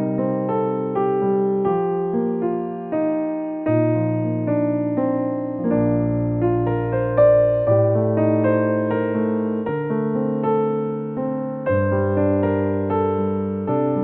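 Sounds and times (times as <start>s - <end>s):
electric piano chords and melody: 0.0s - 14.0s.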